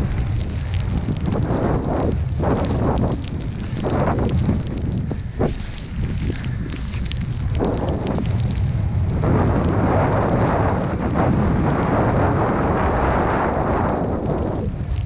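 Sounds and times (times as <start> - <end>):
snow rushing hiss: 0.0 - 15.0
wind rumble on microphone: 0.0 - 15.0.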